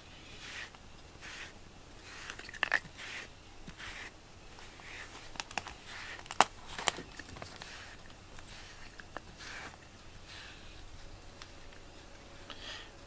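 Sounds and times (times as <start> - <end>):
brush swishing on cat fur: 0.0 - 6.3, 7.4 - 12.1.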